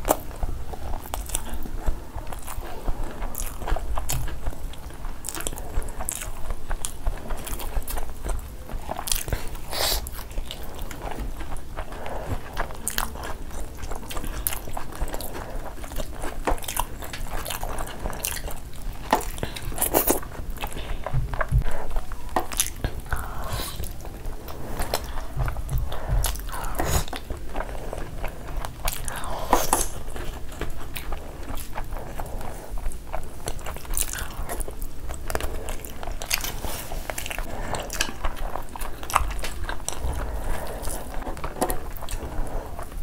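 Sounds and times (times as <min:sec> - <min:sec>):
people chewing food: 0:00.0 - 0:43.0.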